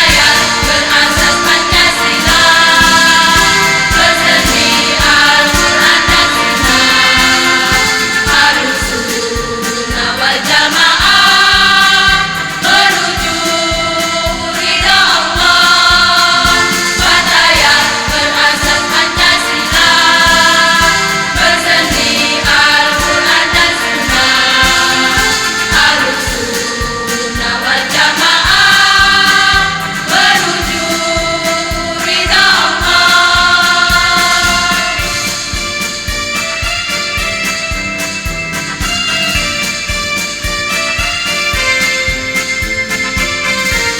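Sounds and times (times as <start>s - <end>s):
women's choir singing: 0.0s - 35.7s
instrumental backing with beat: 0.0s - 43.9s.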